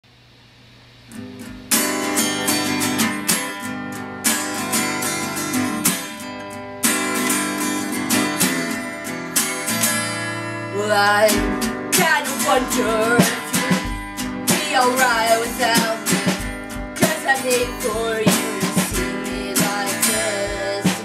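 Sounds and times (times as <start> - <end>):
acoustic guitar strumming: 1.1 - 21.0.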